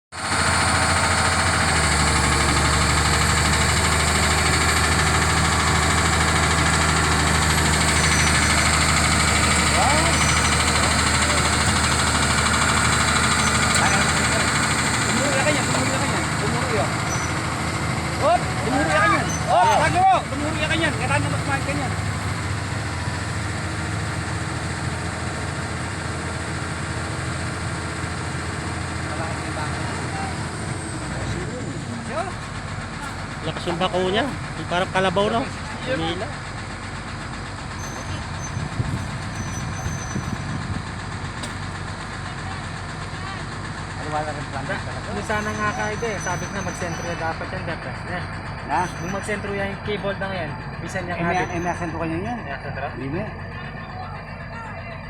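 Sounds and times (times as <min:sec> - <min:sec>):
diesel engine running: 0:00.1 - 0:55.0.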